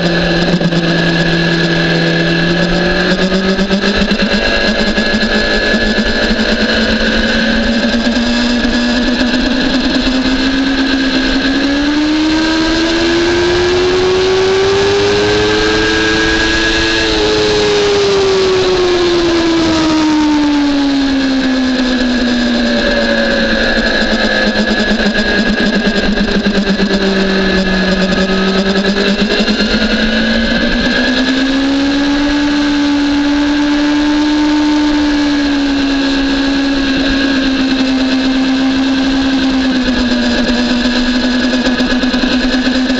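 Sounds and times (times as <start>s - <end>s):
motorcycle engine under way: 0.0s - 42.9s.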